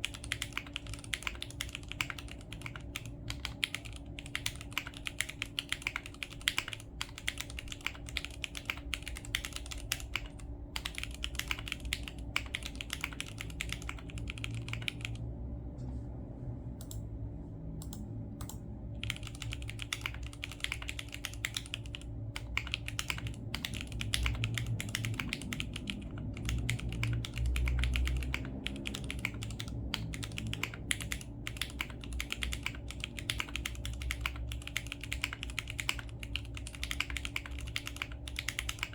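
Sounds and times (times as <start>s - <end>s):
mechanical keyboard typing: 0.0s - 15.2s, 17.8s - 38.9s.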